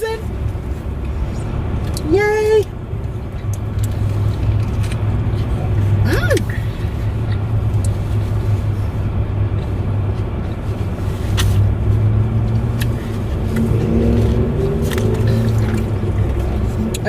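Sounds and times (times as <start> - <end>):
car running low rumble: 0.0 - 17.0.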